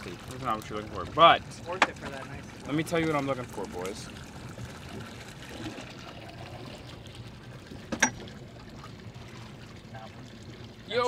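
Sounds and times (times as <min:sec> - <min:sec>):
water lapping around boat: 0:00.0 - 0:11.0.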